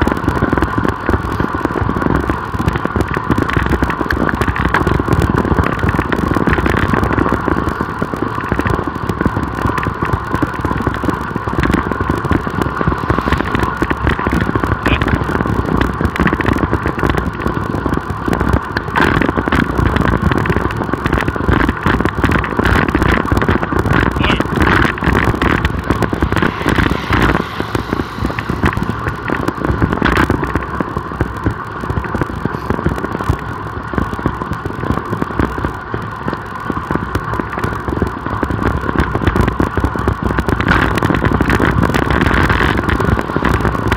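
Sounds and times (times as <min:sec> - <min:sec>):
high-pitched hum: 0:00.0 - 0:43.9
wind noise on microphone: 0:00.0 - 0:43.9.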